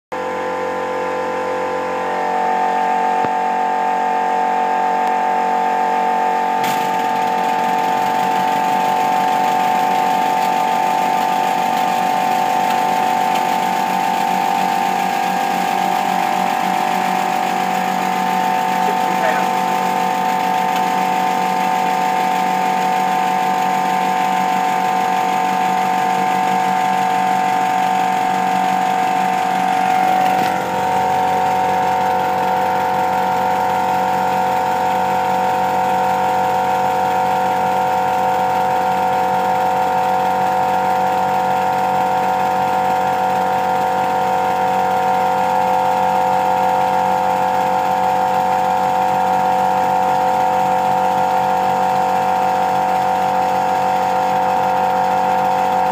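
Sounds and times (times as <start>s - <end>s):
model locomotive mechanism running: 6.6s - 55.9s.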